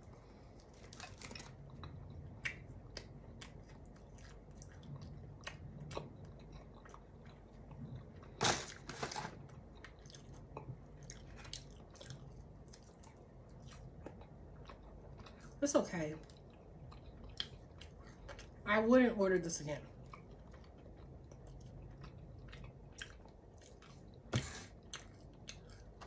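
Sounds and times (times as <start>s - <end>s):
crunchy pretzel chewing: 0.4s - 15.6s, 19.9s - 26.0s.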